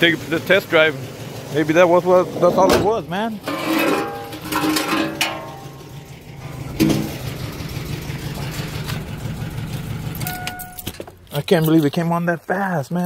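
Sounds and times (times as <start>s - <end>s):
engine knock: 0.0s - 11.9s
car engine idling: 0.0s - 13.0s.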